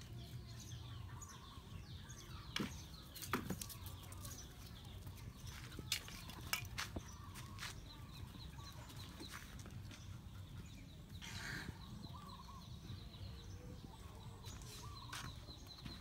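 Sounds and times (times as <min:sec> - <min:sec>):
chickens clucking: 0:00.0 - 0:13.2.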